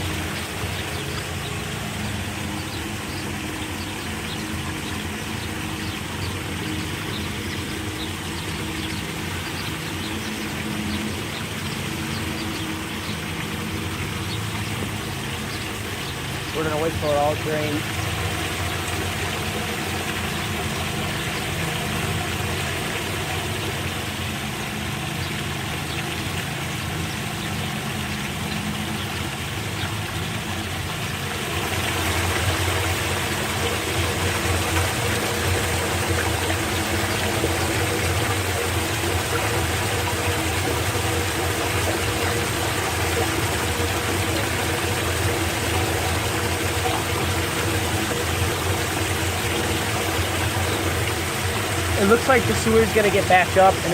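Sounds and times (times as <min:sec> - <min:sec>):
low engine hum: 0:00.0 - 0:53.9
water rushing into storm drain: 0:00.0 - 0:53.9.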